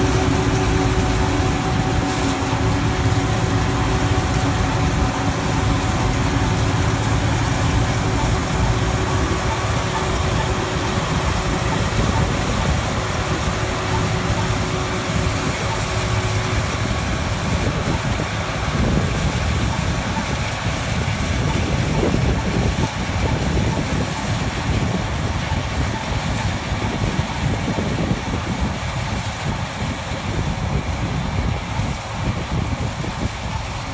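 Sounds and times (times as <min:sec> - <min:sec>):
combine harvester droning: 0:00.0 - 0:27.9
wind rumbling on microphone: 0:00.0 - 0:33.9.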